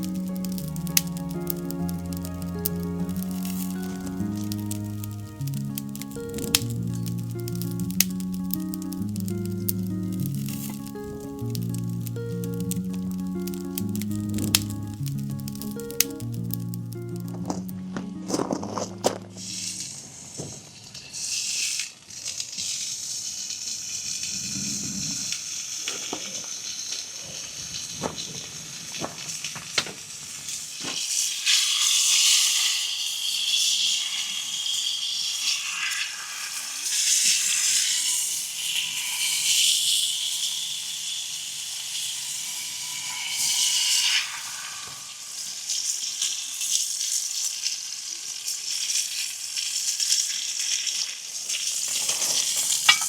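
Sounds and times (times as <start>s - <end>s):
steak sizzling in a pan: 0.0s - 17.7s, 19.4s - 20.4s, 25.2s - 53.0s
light hiss: 0.0s - 18.0s, 18.9s - 53.0s.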